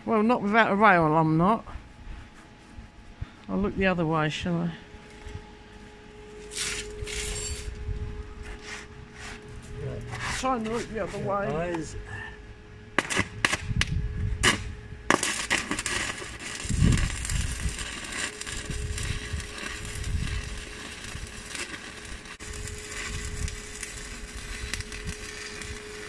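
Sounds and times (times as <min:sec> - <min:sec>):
faint steady hum: 0:00.0 - 0:26.0
arc welding crackling and sizzling: 0:03.6 - 0:12.2, 0:12.9 - 0:26.0.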